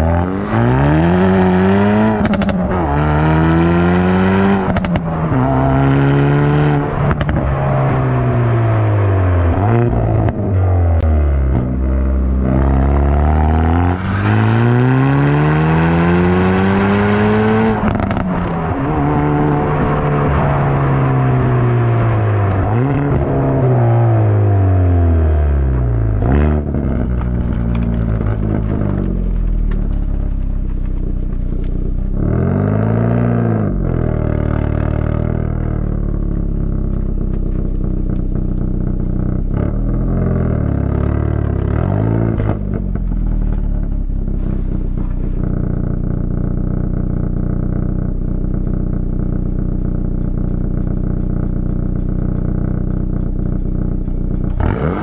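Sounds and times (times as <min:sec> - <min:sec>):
car exhaust idling and revving: 0:00.0 - 0:55.0
exhaust crack: 0:00.0 - 0:55.0.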